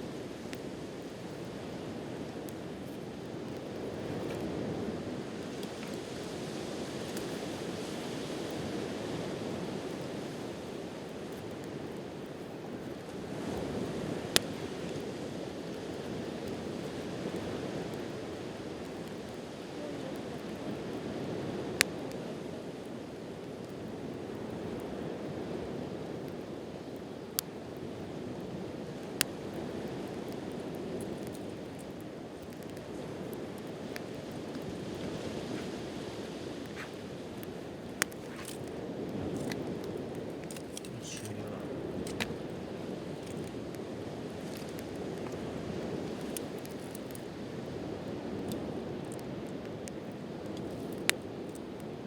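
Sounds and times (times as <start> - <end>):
campfire popping: 0.0 - 52.0.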